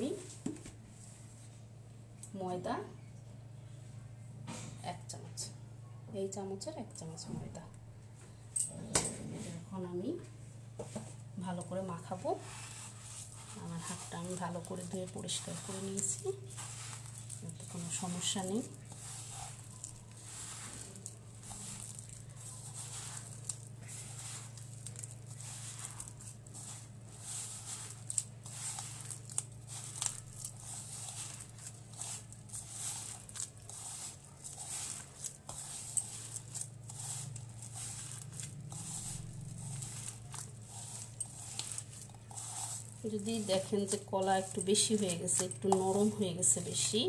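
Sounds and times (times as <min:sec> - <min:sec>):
dough squelching and rustling: 0:00.0 - 0:01.7, 0:09.4 - 0:47.0
steady low hum: 0:00.0 - 0:47.0.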